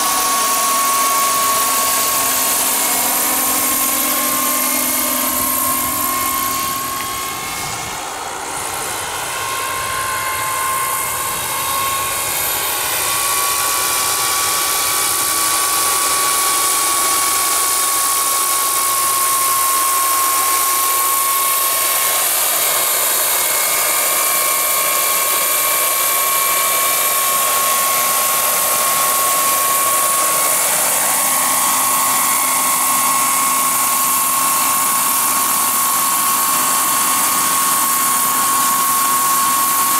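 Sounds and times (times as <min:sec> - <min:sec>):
model helicopter turbine whine: 0:00.0 - 0:39.9.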